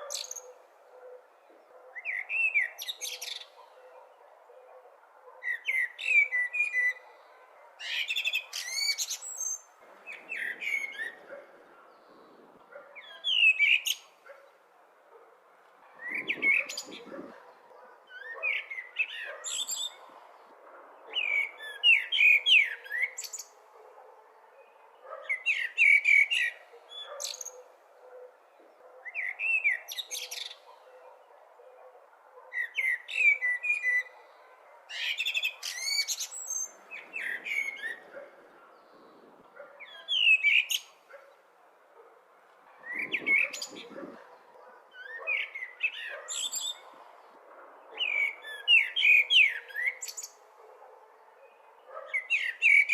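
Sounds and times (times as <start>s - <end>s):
blackbird singing: 0.0s - 14.6s, 15.9s - 20.2s, 21.0s - 41.4s, 42.8s - 47.2s, 47.8s - 52.9s.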